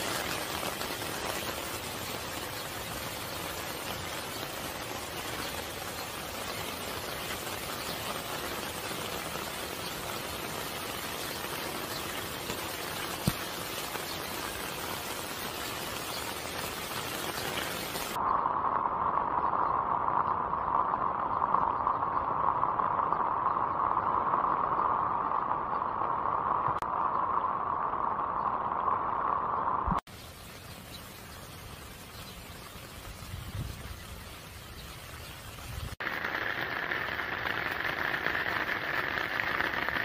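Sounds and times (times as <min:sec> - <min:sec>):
rain hissing: 0:00.0 - 0:40.0.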